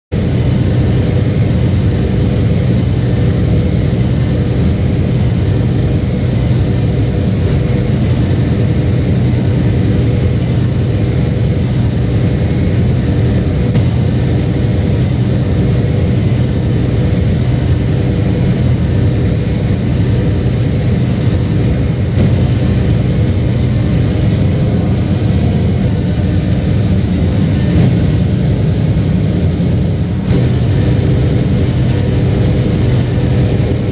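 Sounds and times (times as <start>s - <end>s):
tractor diesel engine droning: 0.1s - 33.9s.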